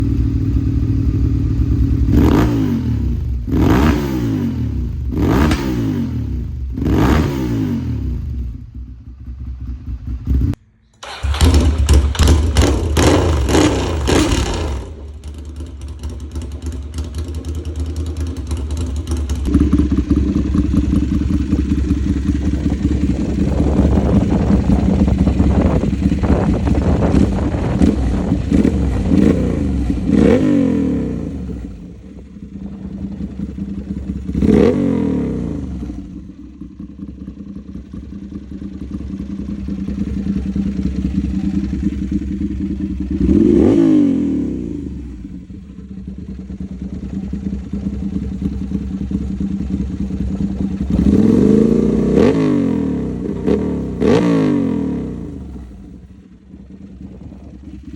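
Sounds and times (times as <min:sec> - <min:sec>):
motorcycle engine idling and revving: 0:00.0 - 0:57.9.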